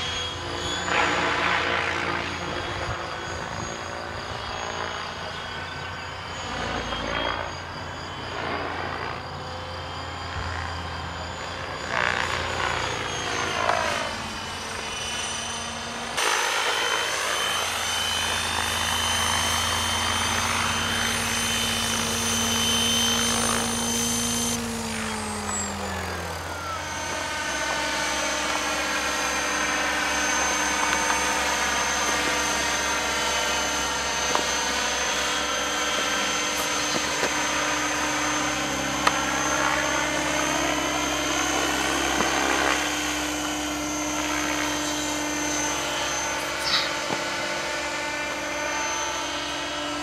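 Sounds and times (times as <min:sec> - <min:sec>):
model helicopter motor whine: 0:00.0 - 0:50.0.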